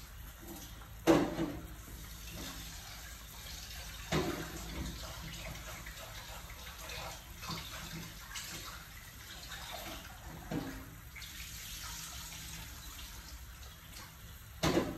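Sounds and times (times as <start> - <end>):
soup boiling and bubbling: 0.0 - 14.9.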